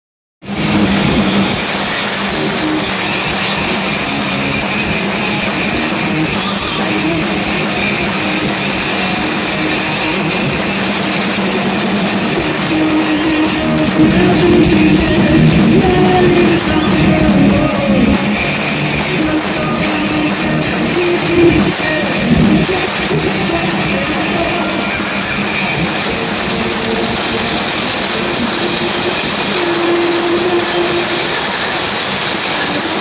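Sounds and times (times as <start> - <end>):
live heavy metal band: 0.4 - 33.0.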